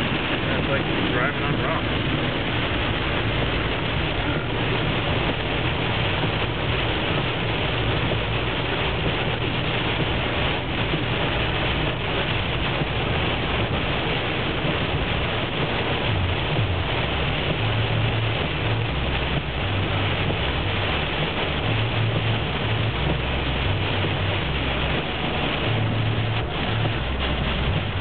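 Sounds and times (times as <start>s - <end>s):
hail and rain clattering on van: 0.0s - 28.0s
tyres rumbling on road: 0.0s - 28.0s.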